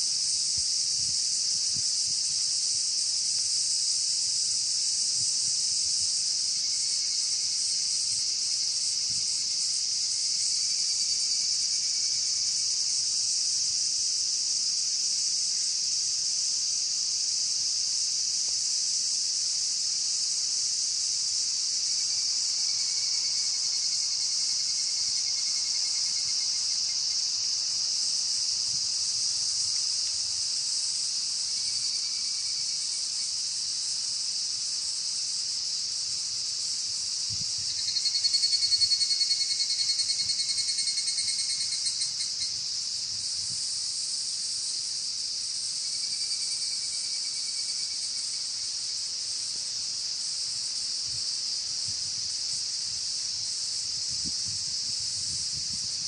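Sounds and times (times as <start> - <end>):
cicada chorus shrilling: 0.0 - 56.0
evening cicada pulsed trills: 0.0 - 56.0.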